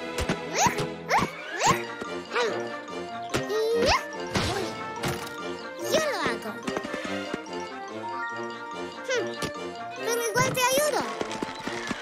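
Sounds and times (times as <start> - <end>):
cartoon soundtrack music: 0.0 - 12.0.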